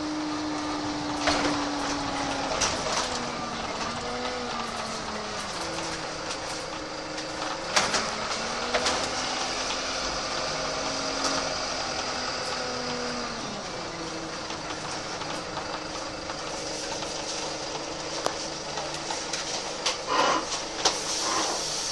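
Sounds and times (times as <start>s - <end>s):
bus diesel engine running: 0.0s - 21.9s
bus body rattles and knocks: 0.9s - 21.0s.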